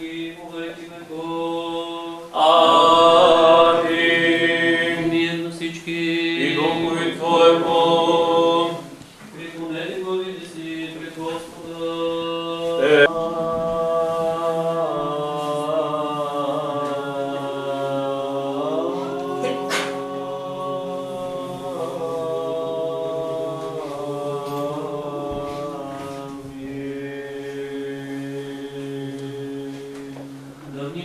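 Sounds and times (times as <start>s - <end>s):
choir chanting: 0.0s - 30.9s.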